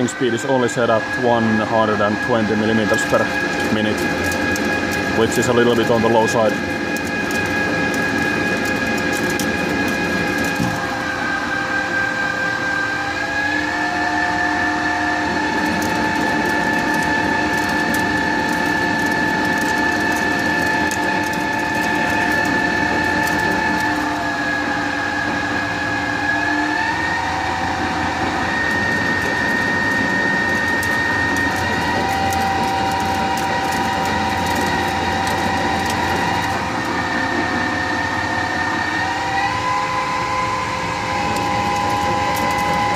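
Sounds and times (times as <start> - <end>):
lathe machine whining: 0.0 - 42.9
machine running noise: 0.0 - 42.9.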